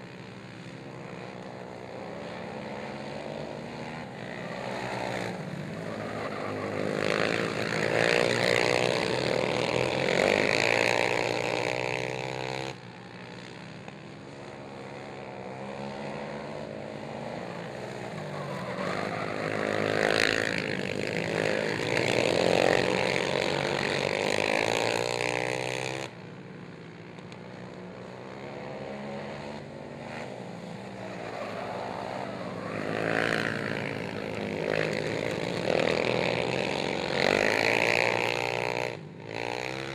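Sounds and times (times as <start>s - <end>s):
racing quad engines revving: 0.0s - 39.9s.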